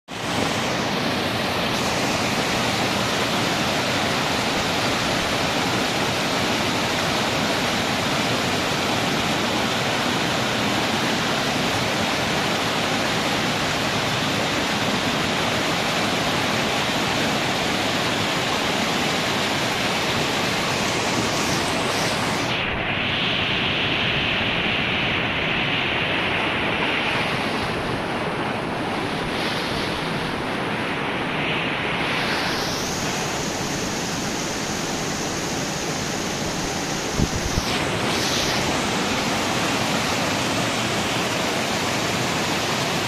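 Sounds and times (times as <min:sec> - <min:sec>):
waterfall rushing: 0:00.1 - 0:43.0.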